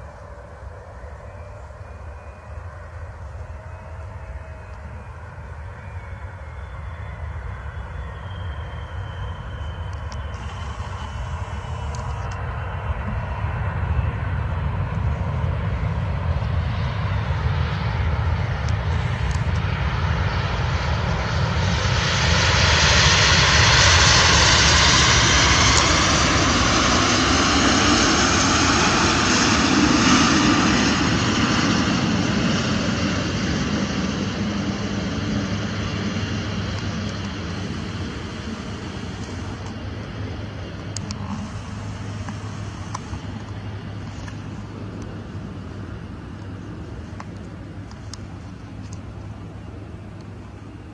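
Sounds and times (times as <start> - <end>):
jet engines of rolling aircraft: 0.0 - 50.9.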